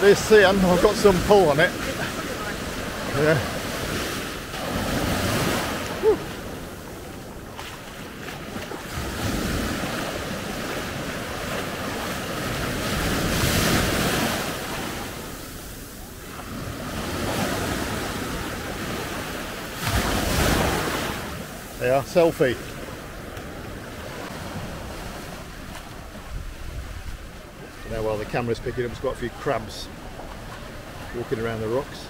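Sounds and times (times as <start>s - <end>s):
small waves washing on beach: 0.0s - 32.0s.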